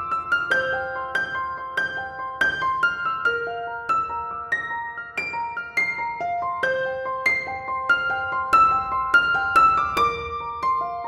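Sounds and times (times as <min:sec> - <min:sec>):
piano-like keyboard melody: 0:00.0 - 0:11.0.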